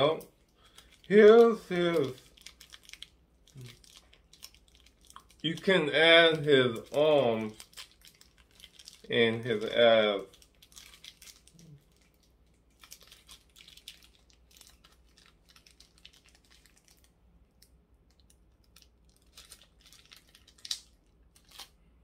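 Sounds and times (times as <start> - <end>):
plastic bag crinkling: 0.0 - 21.8.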